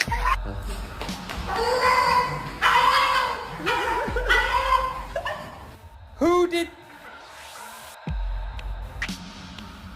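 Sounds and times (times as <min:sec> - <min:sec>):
background music: 0:00.0 - 0:09.9.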